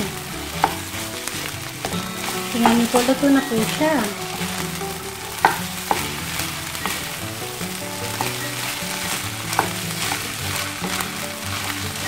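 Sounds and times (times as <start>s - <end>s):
rice sizzling in a frying pan: 0.0s - 12.0s
spatula clacking against pan: 0.0s - 12.0s.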